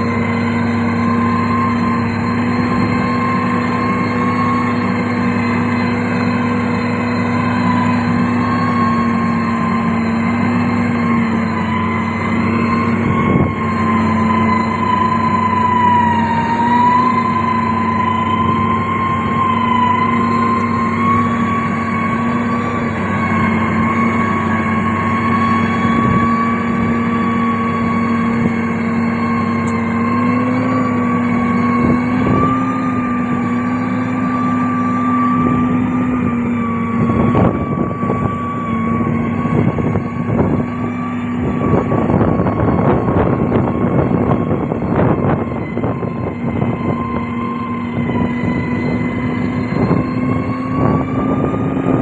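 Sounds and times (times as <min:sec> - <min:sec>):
heavy machine engine running: 0:00.0 - 0:52.0
steady whine: 0:00.0 - 0:52.0.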